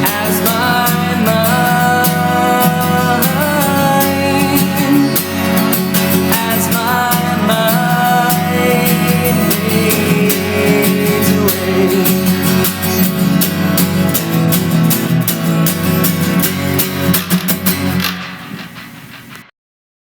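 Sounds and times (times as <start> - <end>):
acoustic guitar strumming: 0.0 - 19.5.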